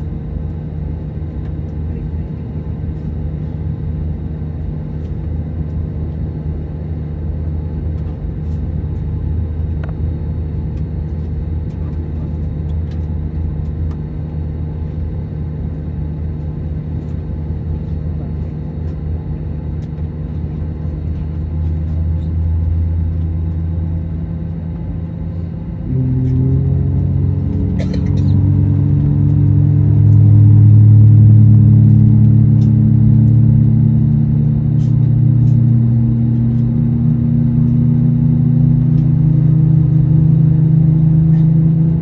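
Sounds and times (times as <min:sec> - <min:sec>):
low cabin drone: 0:00.0 - 0:42.0.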